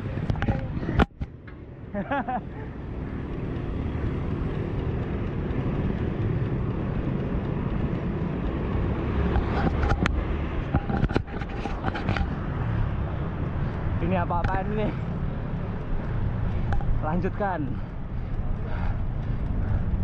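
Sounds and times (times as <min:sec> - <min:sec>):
bike riding rumble: 0:00.0 - 0:20.0.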